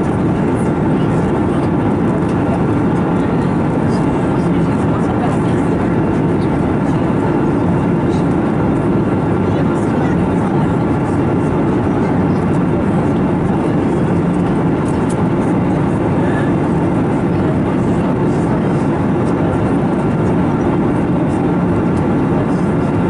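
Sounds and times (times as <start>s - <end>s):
airflow rushing over fuselage: 0.0s - 23.0s
jet engine drone: 0.0s - 23.0s.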